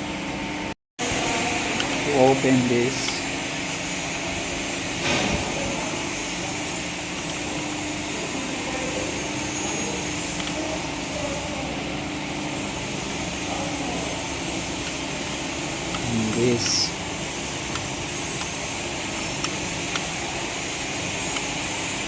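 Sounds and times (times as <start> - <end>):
fan-like machine hiss: 0.0 - 22.0.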